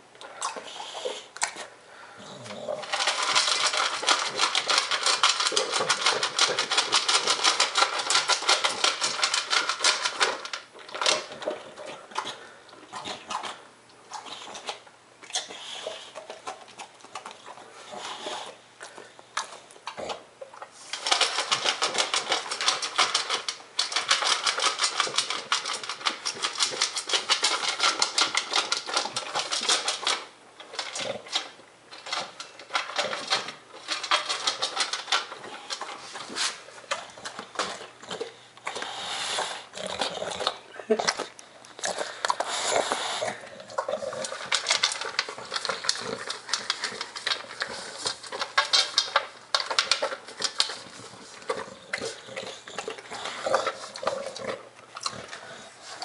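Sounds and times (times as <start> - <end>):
dog chewing from metal bowl: 2.6 - 56.0.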